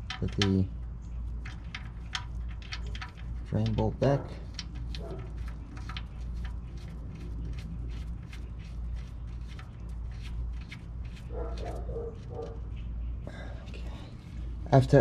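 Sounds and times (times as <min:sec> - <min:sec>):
bolt threads clicking and scraping: 0:00.0 - 0:12.8
steady low hum: 0:00.0 - 0:15.0.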